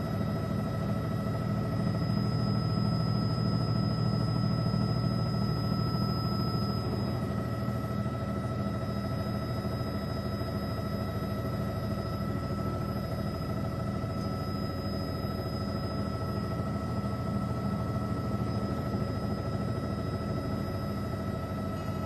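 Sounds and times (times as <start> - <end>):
aircraft engine and rotor drone: 0.0 - 22.0.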